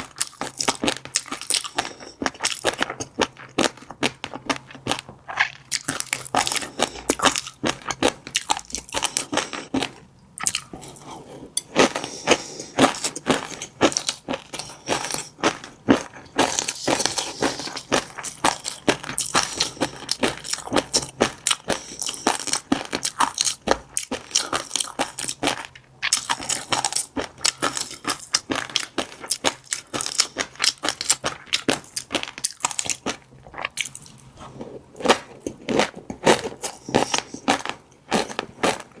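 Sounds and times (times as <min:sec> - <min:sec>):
chewing fish roe popping: 0:00.0 - 0:39.0.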